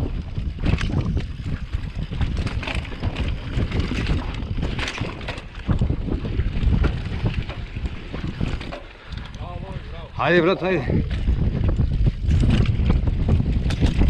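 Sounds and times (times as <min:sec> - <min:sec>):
bike knocks and rattles: 0:00.0 - 0:09.4, 0:11.0 - 0:14.0
wind buffeting microphone: 0:00.0 - 0:14.0.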